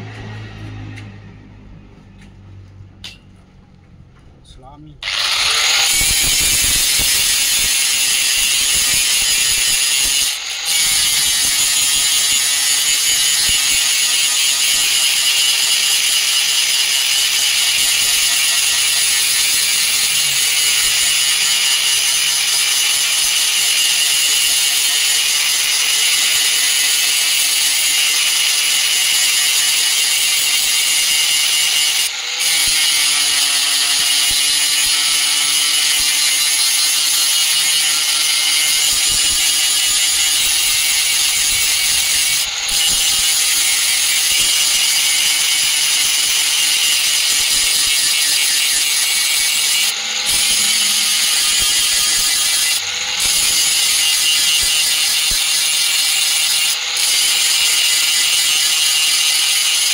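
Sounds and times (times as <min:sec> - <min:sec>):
angle grinder grinding steel: 0:05.0 - 0:59.9.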